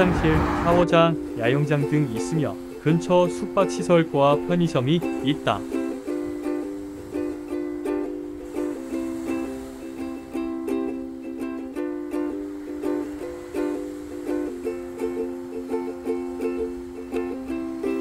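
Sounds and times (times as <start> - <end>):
strummed string music: 0.0 - 18.0.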